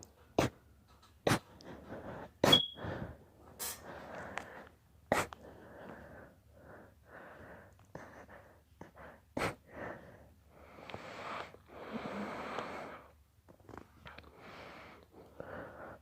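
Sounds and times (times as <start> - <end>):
noisy breathing: 1.3 - 13.2, 14.3 - 16.0.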